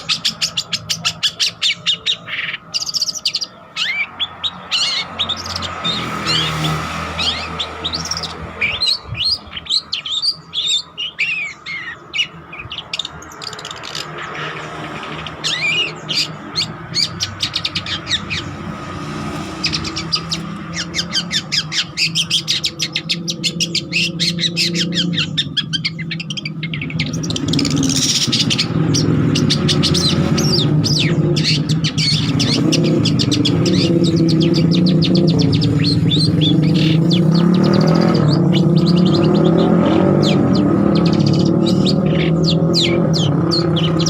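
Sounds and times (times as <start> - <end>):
bird singing chirps and whistles: 0.0 - 44.0.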